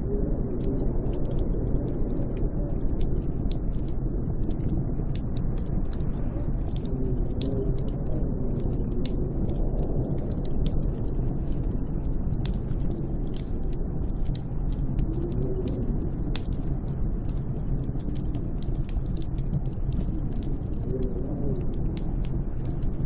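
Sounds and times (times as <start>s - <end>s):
sharp crackles: 0.0s - 23.0s
snowstorm wind howling: 0.0s - 23.0s.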